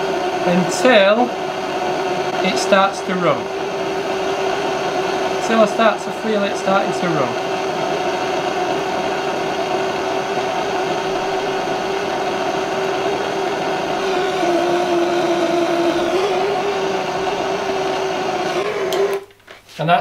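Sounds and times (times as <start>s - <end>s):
blow lamp burning with rushing roar: 0.0s - 19.5s.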